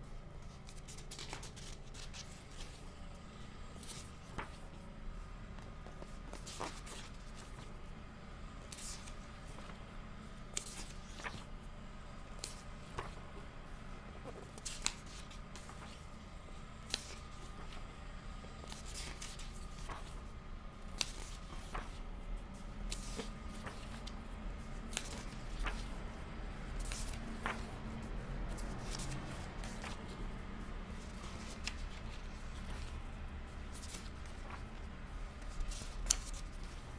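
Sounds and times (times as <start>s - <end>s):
book pages turning: 0.4s - 3.1s, 3.7s - 4.8s, 5.5s - 7.8s, 8.7s - 9.9s, 10.5s - 11.5s, 12.3s - 13.3s, 14.2s - 17.9s, 18.5s - 36.9s.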